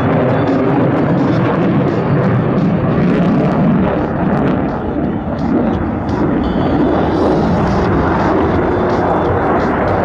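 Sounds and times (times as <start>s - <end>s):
fighter jet rumble overhead: 0.0s - 10.0s.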